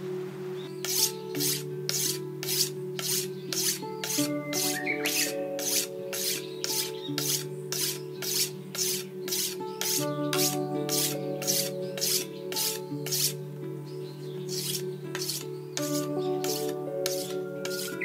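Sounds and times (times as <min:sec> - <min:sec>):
blade being sharpened: 0:00.8 - 0:13.4, 0:14.5 - 0:18.0.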